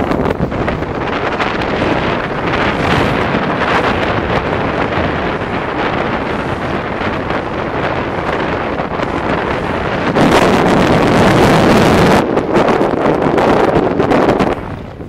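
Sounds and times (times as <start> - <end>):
boat engine rushing: 0.0 - 15.0
water rushing: 0.0 - 15.0
wind buffeting microphone: 0.0 - 15.0.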